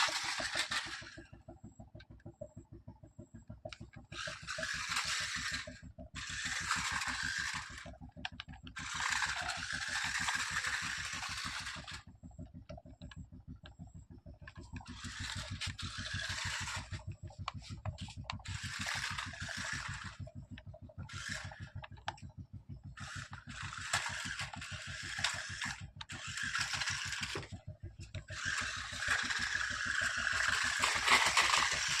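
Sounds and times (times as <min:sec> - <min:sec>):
toy car motor whirring: 0:00.0 - 0:01.4, 0:03.6 - 0:13.8, 0:14.4 - 0:22.3, 0:22.9 - 0:32.0
steady low pulsing: 0:00.0 - 0:32.0.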